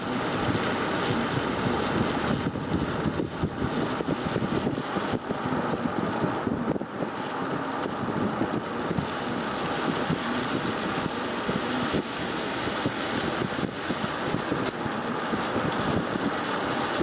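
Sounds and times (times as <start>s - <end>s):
car road and engine noise: 0.0s - 17.0s
wind: 0.0s - 17.0s.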